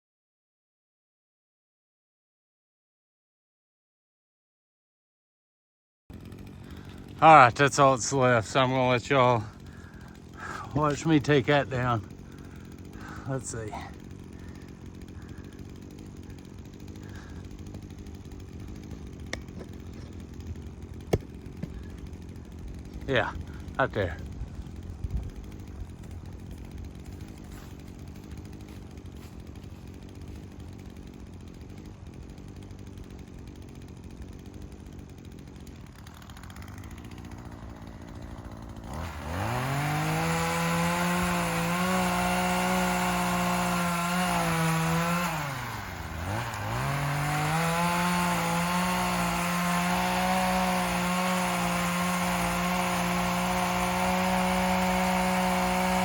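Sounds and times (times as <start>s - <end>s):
pole saw engine revving: 6.1s - 56.0s.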